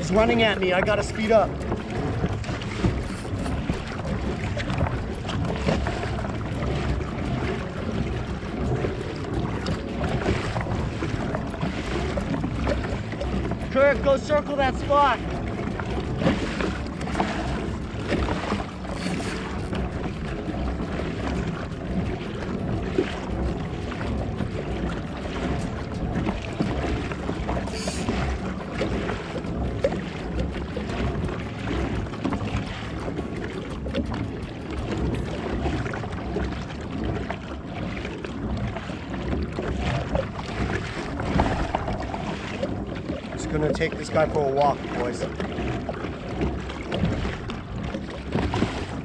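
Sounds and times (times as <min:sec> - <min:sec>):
water splashing along kayak hull: 0:00.0 - 0:49.0
wind rumbling on microphone: 0:00.0 - 0:49.0.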